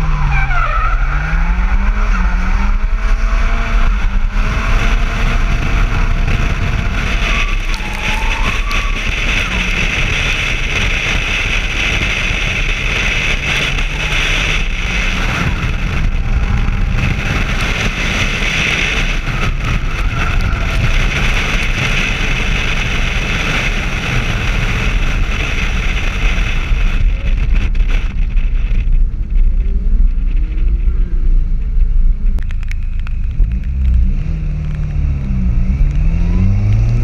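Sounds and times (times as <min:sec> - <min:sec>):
car engine racing: 0:00.0 - 0:37.0
wind rushing over camera: 0:01.0 - 0:37.0.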